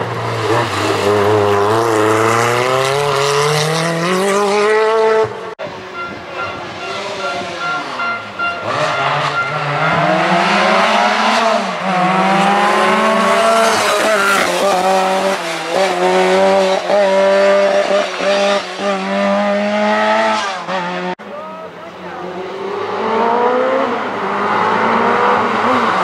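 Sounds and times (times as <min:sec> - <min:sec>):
rally car engine accelerating: 0:00.0 - 0:21.2, 0:22.2 - 0:26.0.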